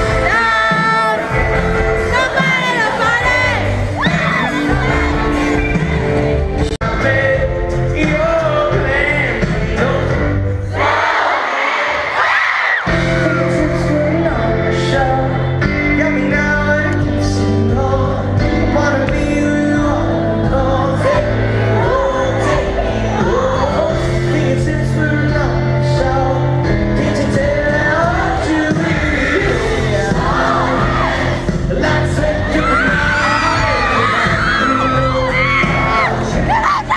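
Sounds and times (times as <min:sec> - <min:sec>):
person singing lead: 0:00.0 - 0:06.0, 0:12.9 - 0:36.9
live pop-rock band playing: 0:00.0 - 0:11.2, 0:12.8 - 0:36.9
audience screaming and cheering: 0:00.0 - 0:17.3, 0:18.2 - 0:36.9.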